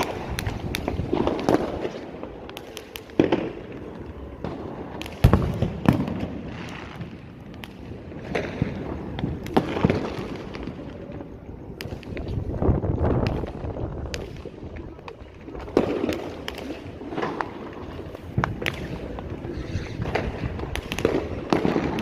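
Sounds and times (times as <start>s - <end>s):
fireworks loud bangs: 0.0s - 10.9s, 11.8s - 22.0s
fireworks pops and crackles: 0.0s - 22.0s.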